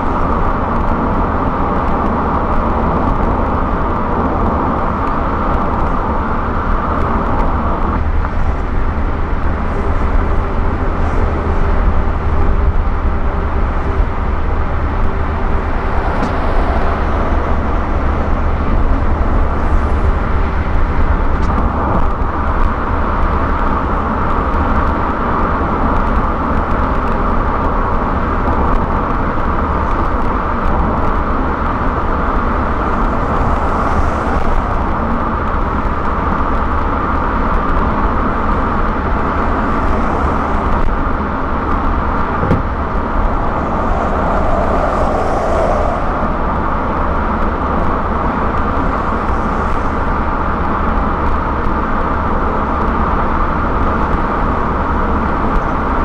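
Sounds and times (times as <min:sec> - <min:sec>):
car engine: 0:00.0 - 0:56.0
tyres rumbling on road: 0:00.0 - 0:56.0.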